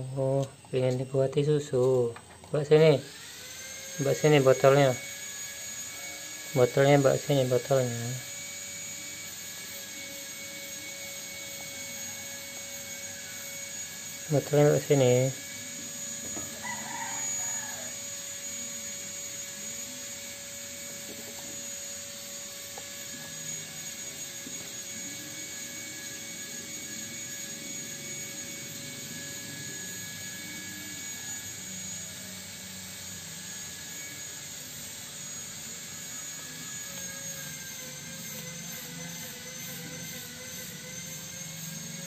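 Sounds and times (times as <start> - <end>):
steady mechanical drone: 0.0 - 42.0
thin whining tones: 0.0 - 42.0.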